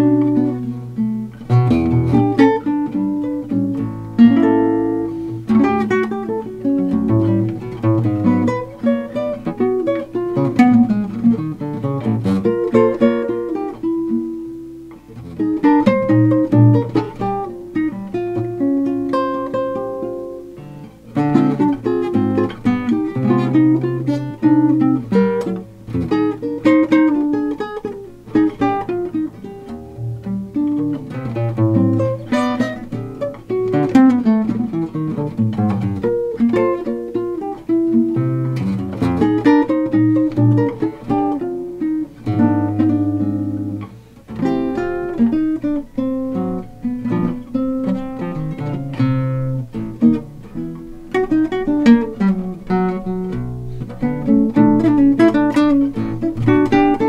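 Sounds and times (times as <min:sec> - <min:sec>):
fingerstyle nylon-string guitar: 0:00.0 - 0:57.0.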